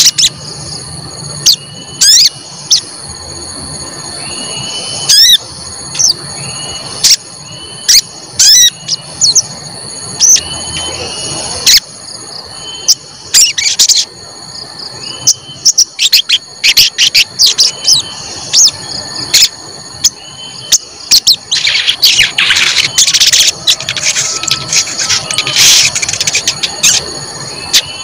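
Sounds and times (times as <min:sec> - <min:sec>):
bird chirping: 0:00.0 - 0:02.9, 0:04.2 - 0:28.0
high-pitched whine: 0:00.0 - 0:28.0.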